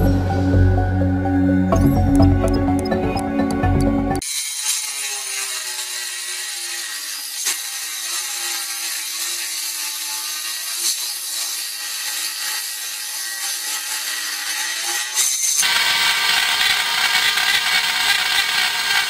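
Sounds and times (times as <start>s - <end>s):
cutting disc rasping: 0.0s - 19.0s
rotary tool whine: 0.0s - 19.0s.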